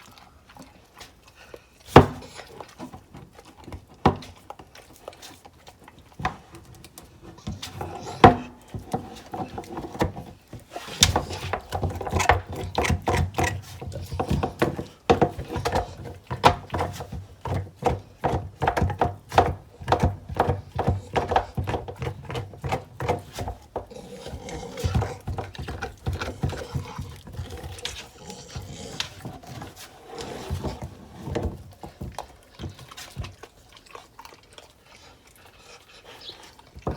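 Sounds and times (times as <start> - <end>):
dog crunching on a bone: 0.0 - 36.9.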